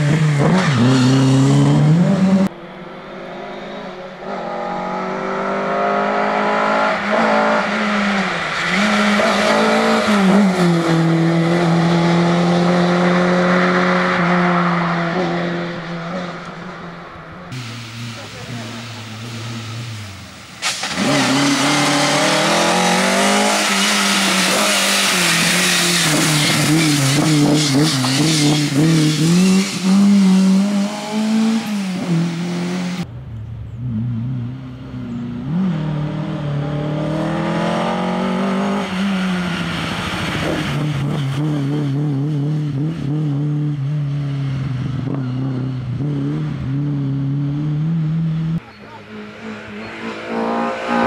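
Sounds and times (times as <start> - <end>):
rally car engine revving: 0.0 - 33.1, 33.8 - 51.0.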